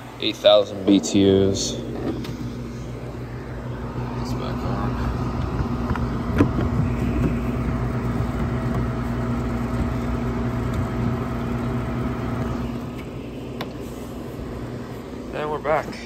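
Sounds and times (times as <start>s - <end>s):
window air conditioner humming: 0.0s - 16.0s.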